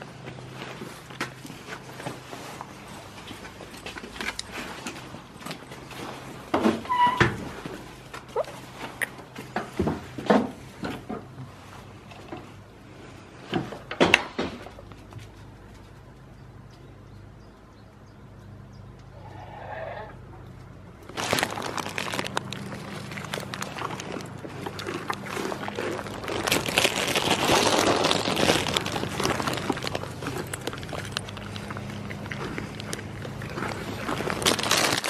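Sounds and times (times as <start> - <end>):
goats crunching crackers: 0.0 - 6.9, 7.5 - 16.7, 18.9 - 35.0.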